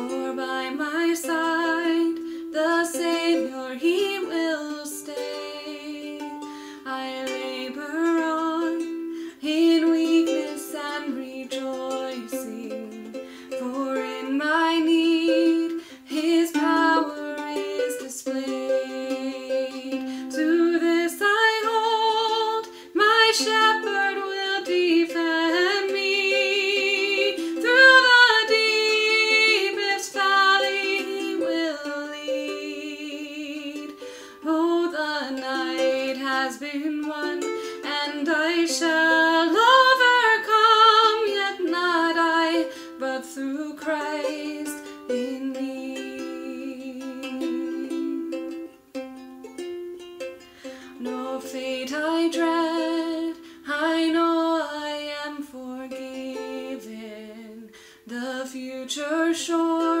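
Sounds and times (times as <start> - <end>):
plucked-string accompaniment: 0.0 - 60.0.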